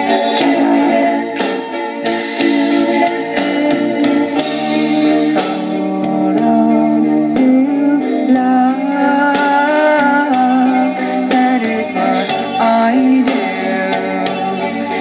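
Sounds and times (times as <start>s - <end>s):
song with singing and guitar: 0.0s - 15.0s.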